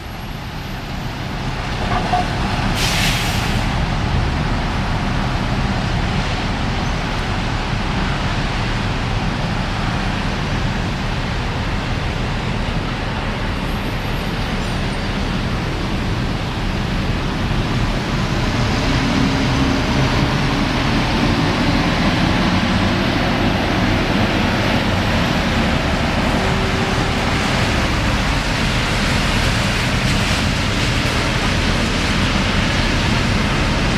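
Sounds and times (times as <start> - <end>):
tyres hissing on wet road: 0.0 - 33.9
heavy engine passing: 0.4 - 33.9.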